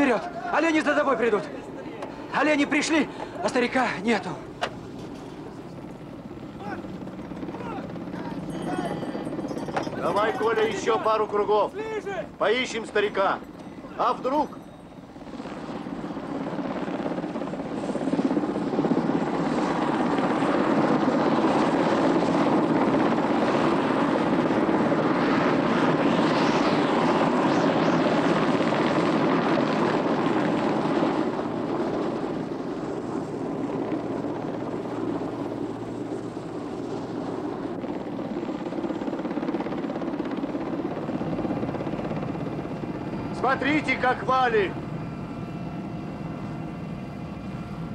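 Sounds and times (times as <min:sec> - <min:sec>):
helicopter engine and rotor drone: 0:00.0 - 0:47.9.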